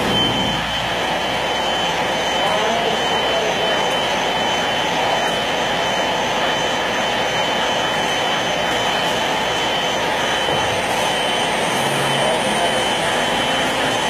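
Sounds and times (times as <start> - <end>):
thin high whine: 0.0 - 14.0
wood router running: 0.0 - 14.0.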